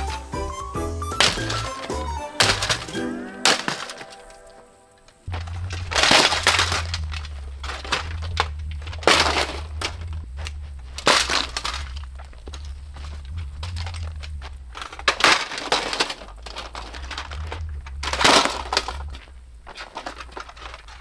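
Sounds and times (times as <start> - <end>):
heavy blows smashing plastic: 0.0 - 21.0
steady low hum: 0.0 - 21.0
plastic cracking and breaking: 1.1 - 4.4, 5.0 - 21.0.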